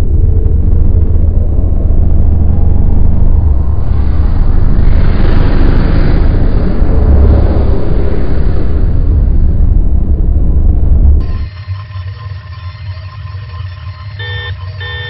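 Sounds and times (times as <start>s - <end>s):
spaceship engine rumble: 0.0s - 15.0s.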